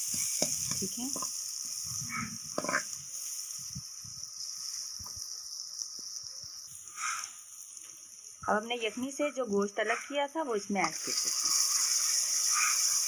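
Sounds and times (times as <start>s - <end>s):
oil sizzling in a metal pot: 0.0s - 13.0s.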